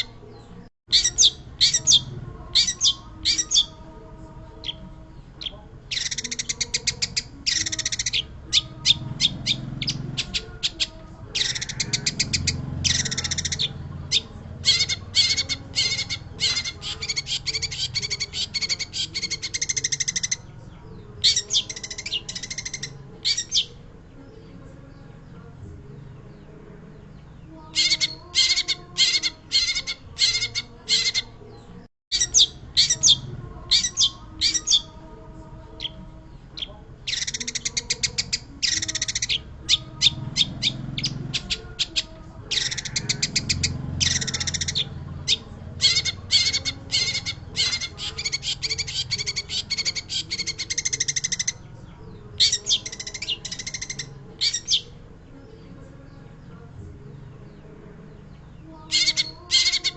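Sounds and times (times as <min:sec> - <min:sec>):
bird harsh chattering song: 0:00.0 - 0:03.8, 0:04.5 - 0:23.9, 0:26.2 - 0:35.0, 0:35.7 - 0:55.7, 0:57.4 - 0:59.9.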